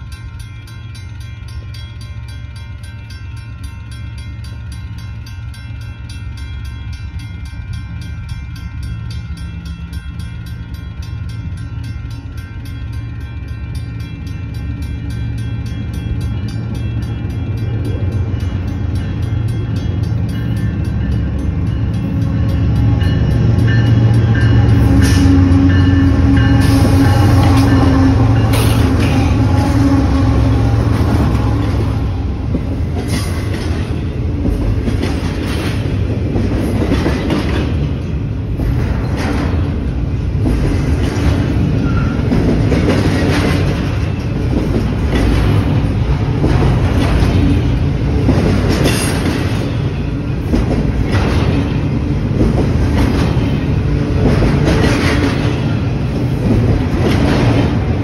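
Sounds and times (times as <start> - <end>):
diesel locomotive engines running: 0.0 - 58.0
train rumbling past: 0.0 - 58.0
wheels clacking on rails: 0.0 - 58.0.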